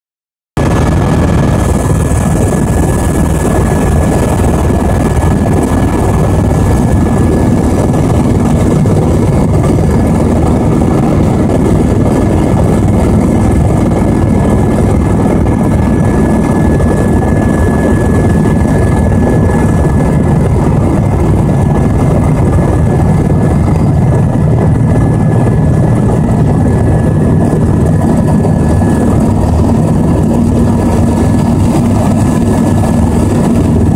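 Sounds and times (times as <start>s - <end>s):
helicopter rotor and engine: 0.6s - 33.9s.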